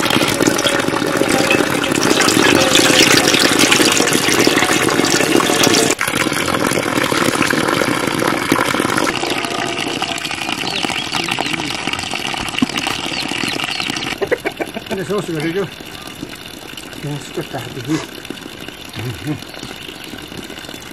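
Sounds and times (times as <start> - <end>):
hose stream into metal pot: 0.0 - 20.9
water pouring and splashing: 0.0 - 20.9.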